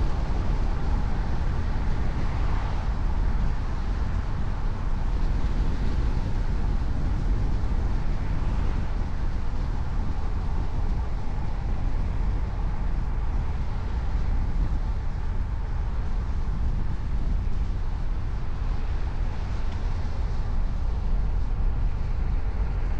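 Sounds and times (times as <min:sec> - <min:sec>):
car engine and tyre road noise: 0:00.0 - 0:22.9.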